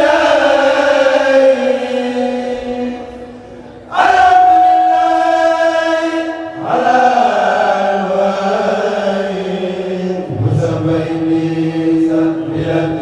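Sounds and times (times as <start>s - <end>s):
male choir chanting in unison: 0.0s - 13.0s.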